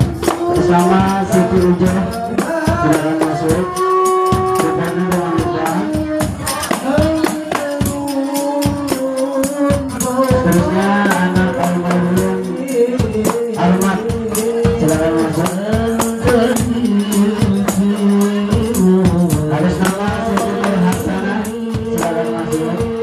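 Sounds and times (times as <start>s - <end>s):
frame drums with jingles: 0.0s - 23.0s
person singing into a microphone: 0.0s - 23.0s.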